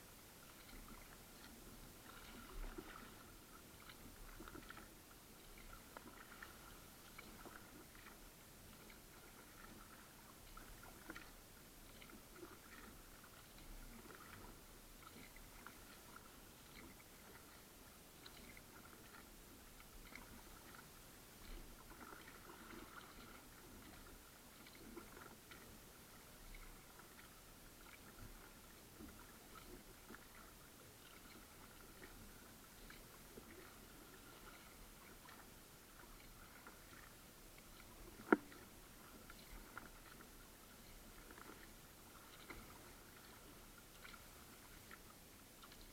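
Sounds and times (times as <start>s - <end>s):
paddle splashing water: 0.0s - 45.9s.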